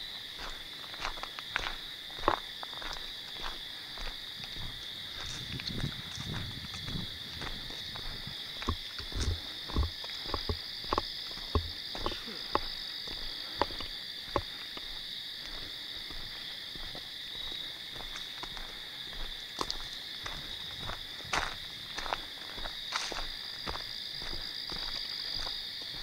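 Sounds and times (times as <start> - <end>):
footsteps crunching dry leaves: 0.0 - 26.0.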